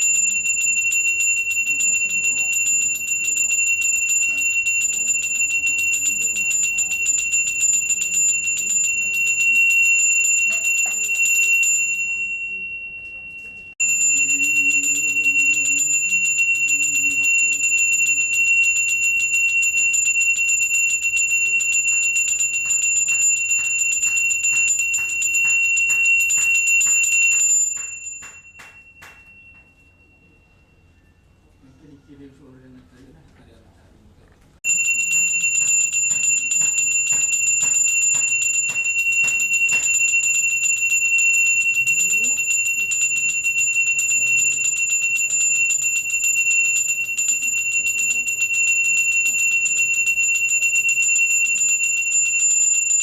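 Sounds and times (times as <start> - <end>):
small hand bell ringing fast: 0.0 - 31.6, 34.6 - 53.0.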